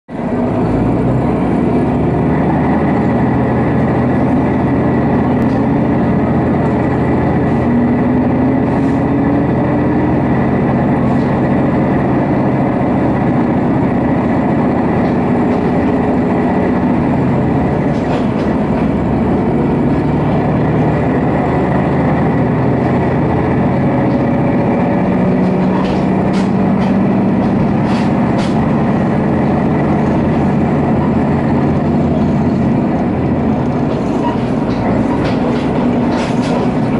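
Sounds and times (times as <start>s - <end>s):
diesel engine drone: 0.1s - 36.9s
wheels rumbling on rails: 0.1s - 36.9s.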